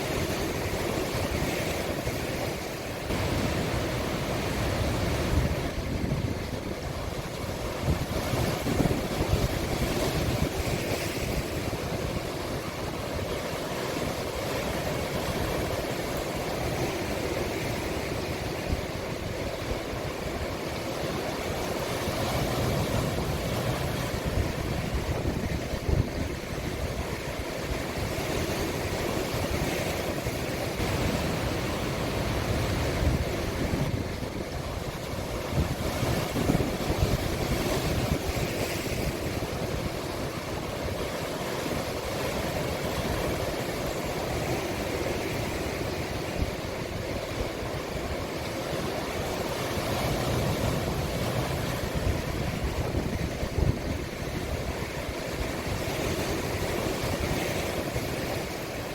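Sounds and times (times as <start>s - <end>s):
wind on microphone: 0.0s - 58.9s.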